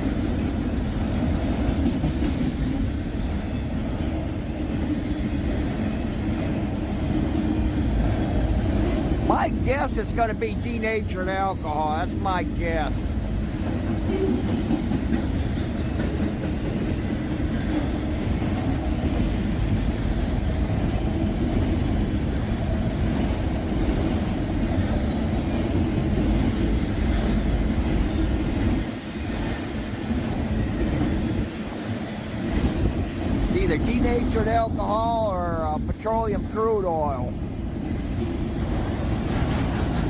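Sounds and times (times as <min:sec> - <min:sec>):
train wheels clattering on rails: 0:00.0 - 0:11.5, 0:12.8 - 0:35.2, 0:37.4 - 0:40.0.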